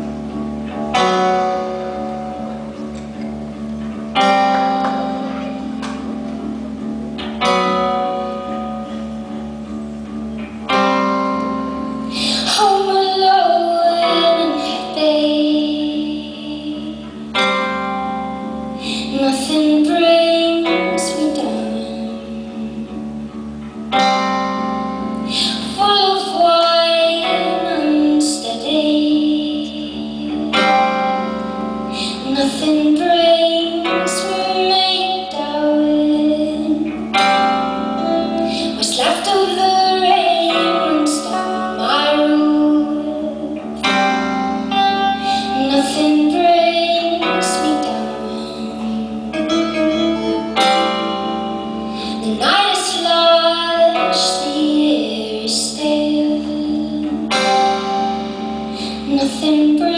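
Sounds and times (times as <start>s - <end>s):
live band playing: 0.0s - 59.9s
woman singing: 10.6s - 23.0s, 23.9s - 59.9s.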